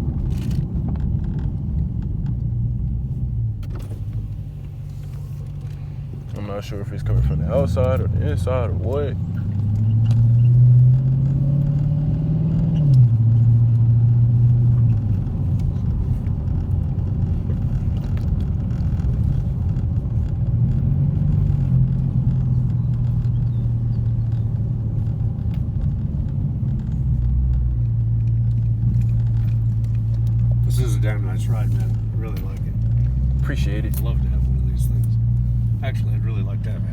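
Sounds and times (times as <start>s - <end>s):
car engine droning inside cabin: 0.0s - 36.9s.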